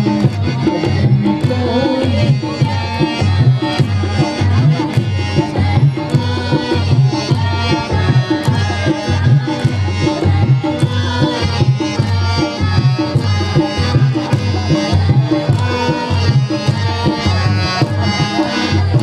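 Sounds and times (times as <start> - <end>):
group singing: 0.0 - 19.0
tabla beat: 0.0 - 19.0
chorus clapping: 3.0 - 19.0.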